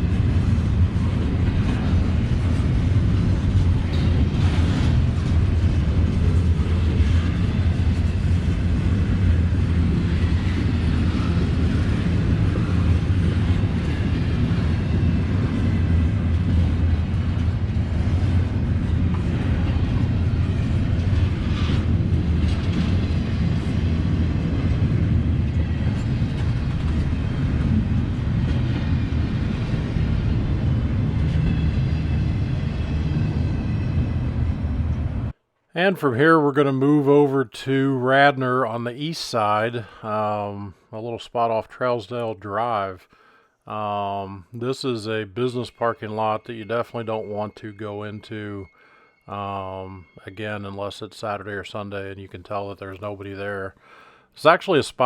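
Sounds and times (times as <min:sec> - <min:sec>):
train rumbling by: 0:00.0 - 0:43.1, 0:43.7 - 0:55.0.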